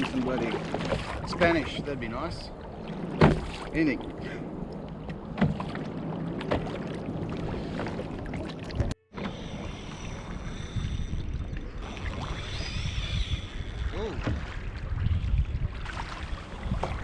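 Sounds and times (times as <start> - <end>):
water lapping against kayak: 0.0 - 17.0
wind on microphone: 0.0 - 17.0.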